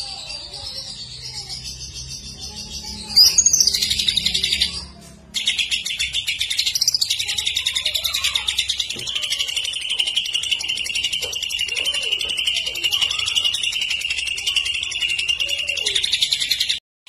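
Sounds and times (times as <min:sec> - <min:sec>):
bird chattering song: 0:00.0 - 0:16.8.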